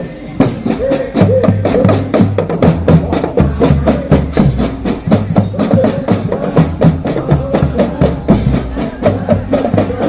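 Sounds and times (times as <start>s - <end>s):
marching drum band playing: 0.2s - 10.0s.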